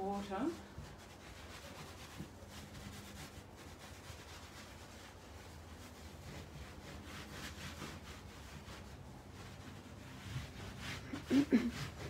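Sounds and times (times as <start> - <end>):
hands rubbing a towel: 0.0 - 12.0.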